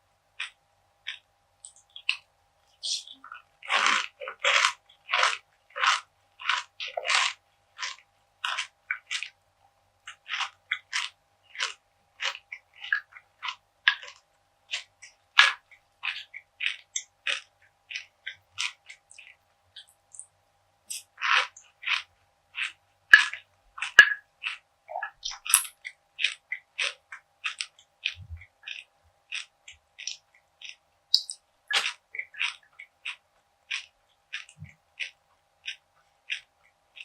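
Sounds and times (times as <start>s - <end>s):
crunchy chewing: 0.4s - 9.4s, 10.0s - 20.3s, 20.9s - 37.0s.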